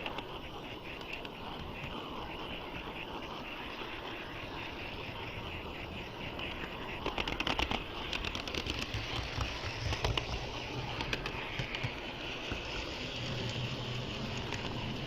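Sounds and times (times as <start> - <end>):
model train rolling on track: 0.0 - 15.0
wheels clicking over rail joints: 0.0 - 15.0.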